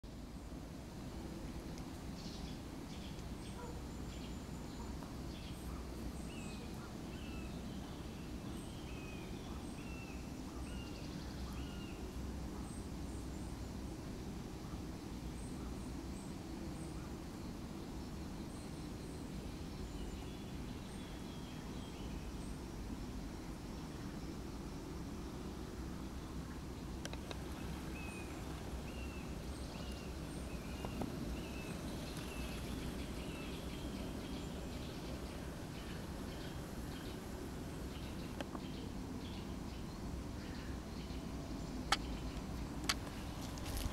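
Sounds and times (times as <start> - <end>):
low background hum: 0.1 - 43.9
low background rumble: 0.1 - 43.9.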